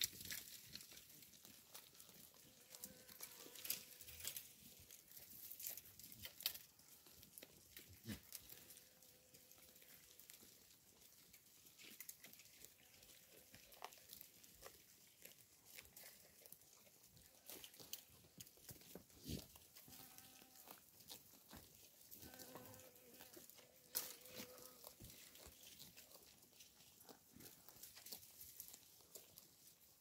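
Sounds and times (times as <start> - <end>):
goats tearing grass: 0.0 - 30.0.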